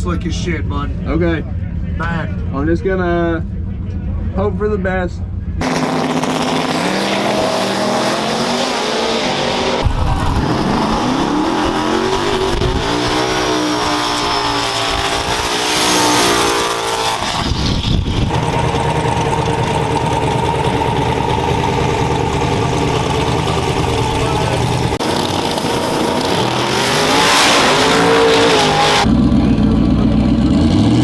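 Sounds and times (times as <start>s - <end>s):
truck engine accelerating: 0.0s - 31.0s.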